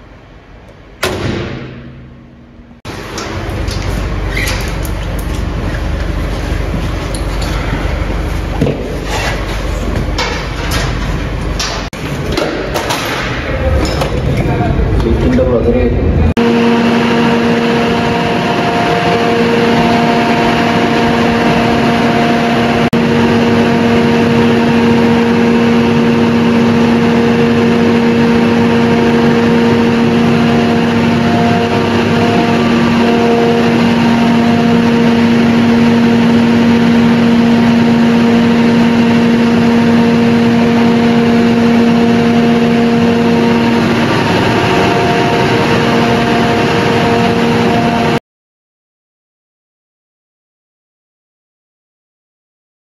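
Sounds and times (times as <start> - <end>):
diesel generator running: 0.0 - 48.2.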